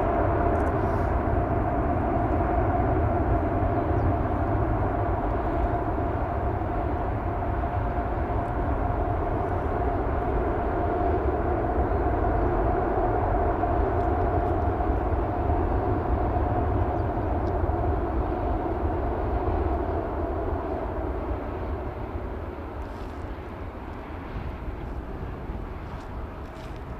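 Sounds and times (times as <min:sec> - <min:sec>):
jet engine rumble with whine: 0:00.0 - 0:26.9.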